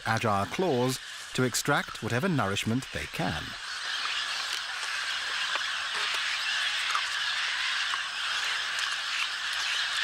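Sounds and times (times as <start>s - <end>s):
forest background chorus hiss: 0.0s - 10.0s.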